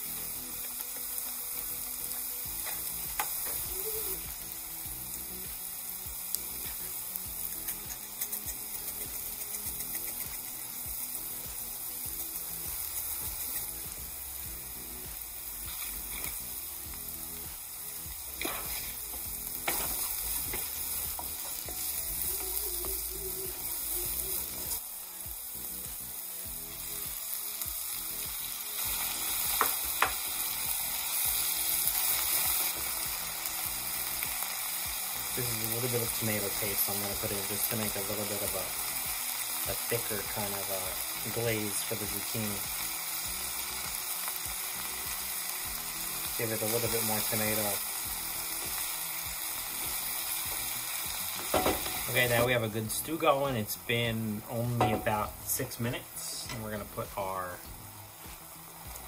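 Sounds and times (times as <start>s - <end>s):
onions and garlic sizzling in oil: 0.0s - 59.0s.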